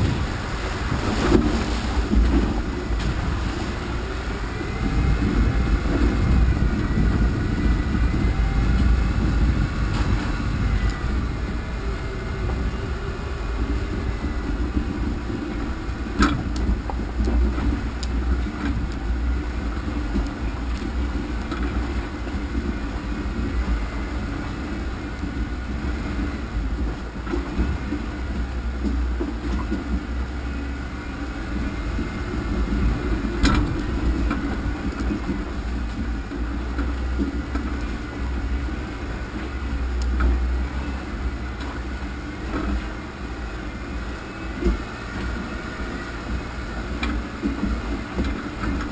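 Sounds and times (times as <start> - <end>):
off-road vehicle engine running: 0.0 - 48.9
rumble and rattle over rough ground: 0.0 - 48.9.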